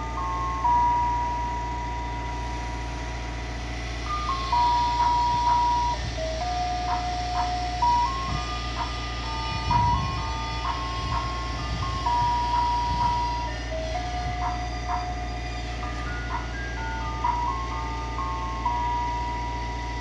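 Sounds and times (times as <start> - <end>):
ice cream truck jingle: 0.0 - 20.0
steady low rumble: 0.0 - 20.0.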